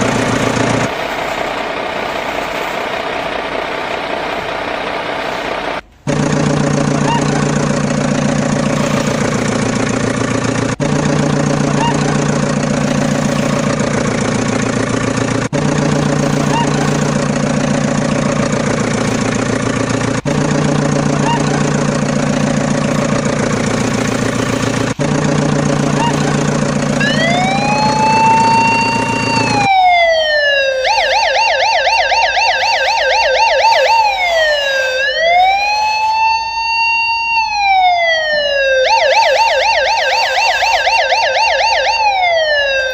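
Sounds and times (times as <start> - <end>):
vehicle engine running: 0.0 - 36.3
electronic siren wailing and yelping: 6.1 - 42.9.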